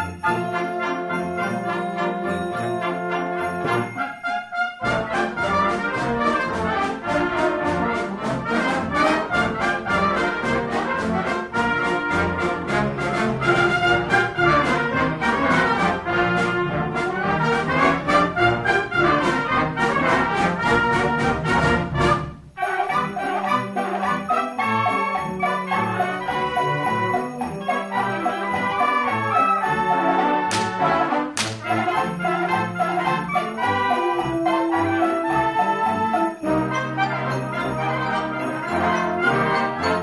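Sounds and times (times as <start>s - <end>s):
concert band playing: 0.0s - 40.0s
trombones and trumpets: 0.0s - 40.0s.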